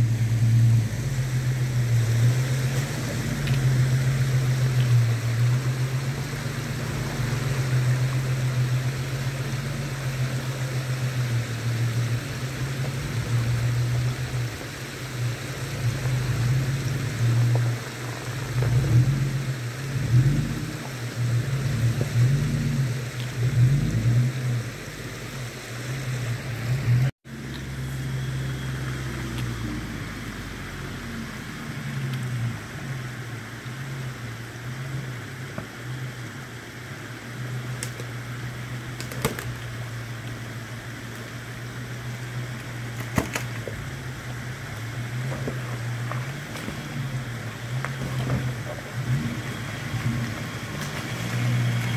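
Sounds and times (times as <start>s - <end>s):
engine revving unevenly: 0.0s - 51.9s
flowing creek water: 0.0s - 51.9s.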